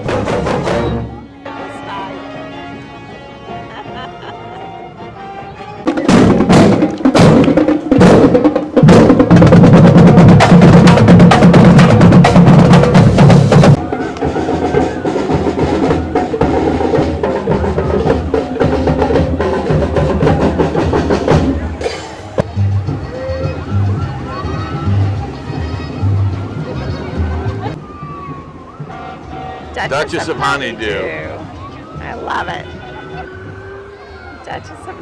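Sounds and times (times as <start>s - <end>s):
marching band drums: 0.0s - 1.2s, 5.8s - 33.6s.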